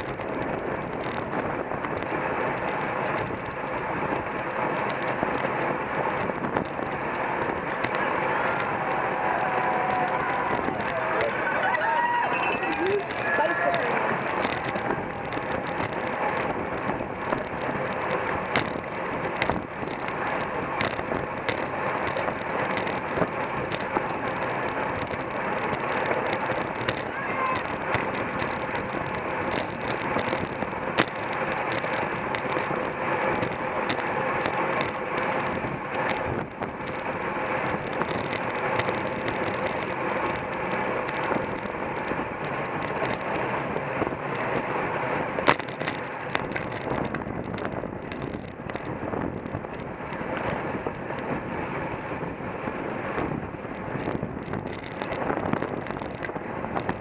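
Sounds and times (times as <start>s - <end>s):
bicycle tyres on road: 0.0s - 57.0s.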